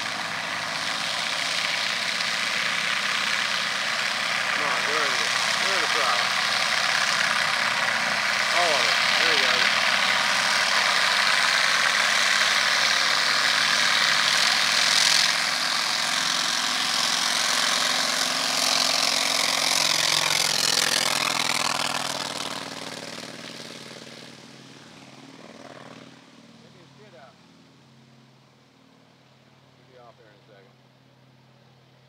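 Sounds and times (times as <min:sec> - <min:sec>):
propeller airplane engine at full power: 0:00.0 - 0:32.0.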